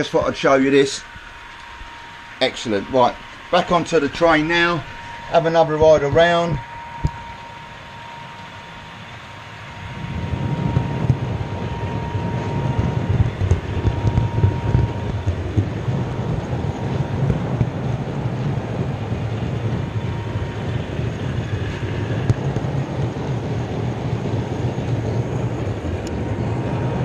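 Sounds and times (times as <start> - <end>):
faint thin whine: 0.0 - 27.0.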